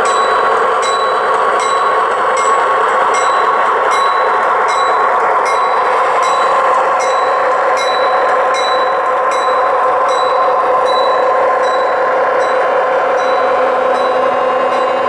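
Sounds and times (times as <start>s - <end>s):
model train motors and wheels humming: 0.0s - 15.0s.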